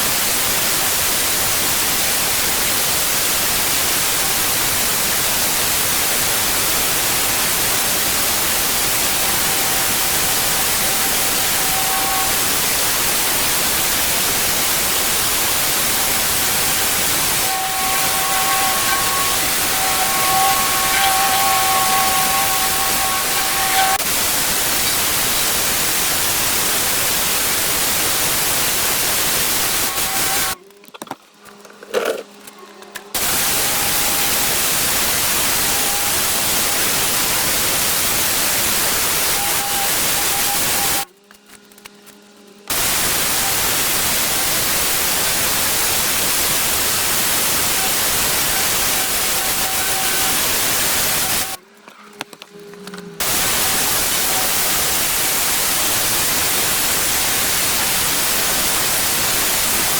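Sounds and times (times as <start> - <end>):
pressure washer spraying: 0.0 - 30.6, 33.2 - 41.1, 42.7 - 51.6, 53.2 - 59.9.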